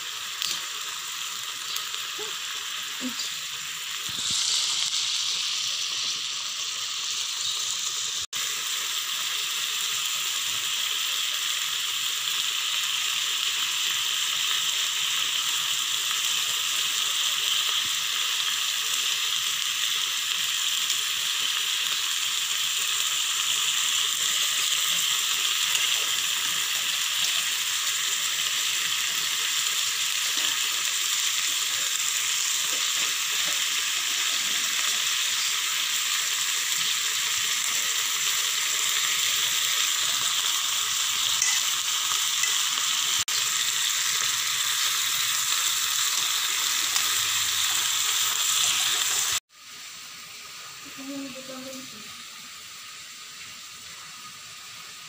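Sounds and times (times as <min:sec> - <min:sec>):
meat sizzling in a pan: 0:00.0 - 0:55.0.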